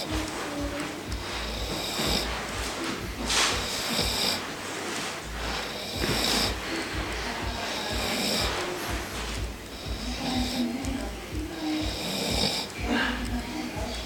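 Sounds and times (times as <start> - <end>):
dog snoring: 0.0 - 14.0.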